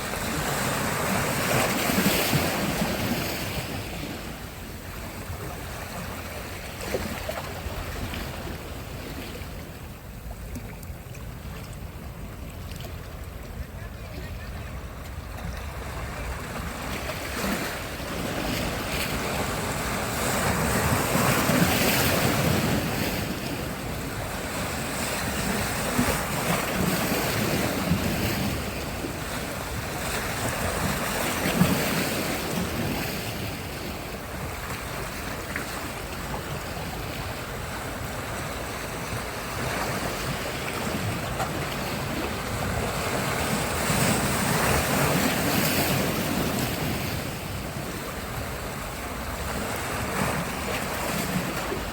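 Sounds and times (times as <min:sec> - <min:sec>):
waves breaking on beach: 0:00.0 - 0:51.9.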